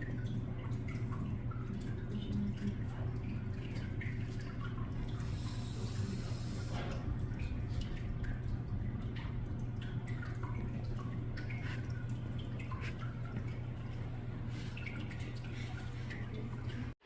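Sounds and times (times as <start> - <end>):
steady low hum: 0.0 - 17.0
water dripping into water: 0.0 - 17.0.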